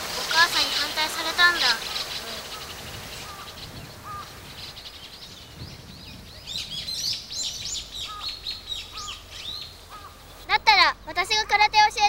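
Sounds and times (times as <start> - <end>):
low outdoor background: 0.0 - 12.0
small birds chirping: 0.0 - 12.0.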